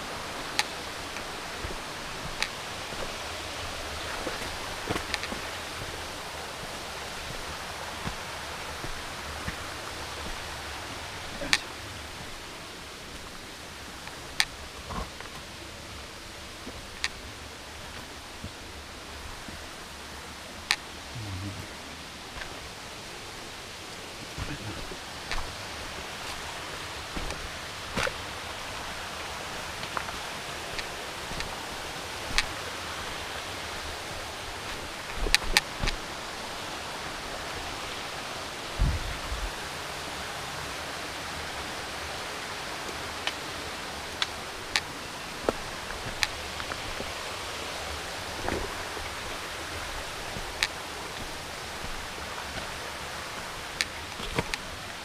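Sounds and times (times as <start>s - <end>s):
steady rushing outdoor noise: 0.0s - 55.0s.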